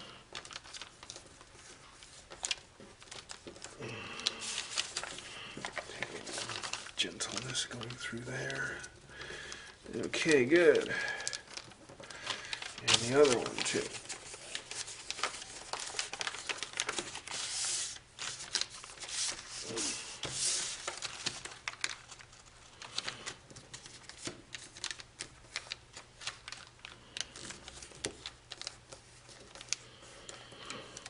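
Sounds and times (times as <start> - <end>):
foil sheet crinkling: 0.0 - 31.0.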